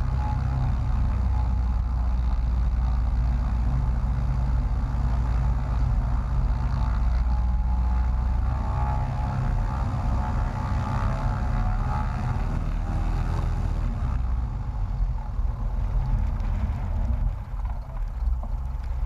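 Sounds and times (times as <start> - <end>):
light aircraft engine and propeller: 0.0 - 19.0.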